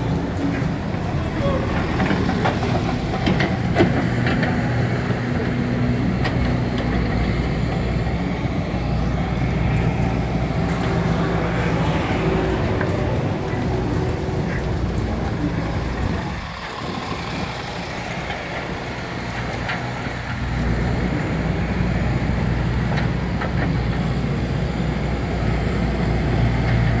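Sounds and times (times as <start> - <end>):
bus and cars driving by: 0.0 - 27.0.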